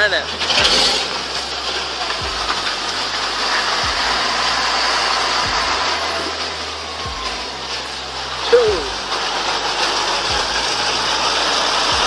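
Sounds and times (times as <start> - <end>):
broad steady noise: 0.0 - 12.0
truck diesel engine running: 0.0 - 12.0.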